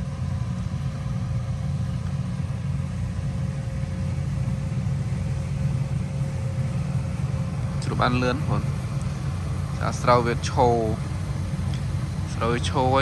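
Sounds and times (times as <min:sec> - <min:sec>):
engine rumbling with faint whine: 0:00.0 - 0:13.0.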